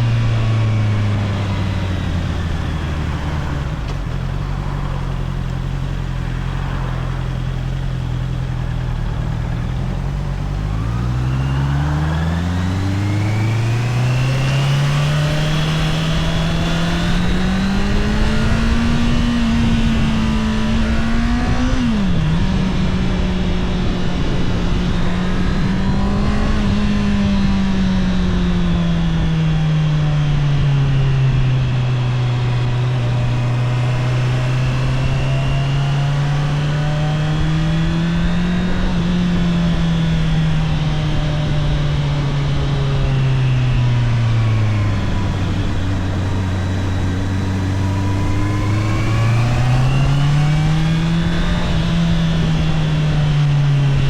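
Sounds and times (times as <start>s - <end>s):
motorcycle engine while riding: 0.0s - 54.0s.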